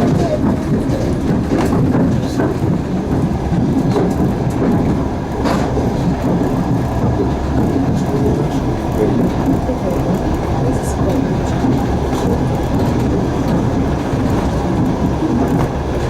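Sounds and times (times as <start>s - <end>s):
rumble of wheels on rails: 0.0s - 16.0s.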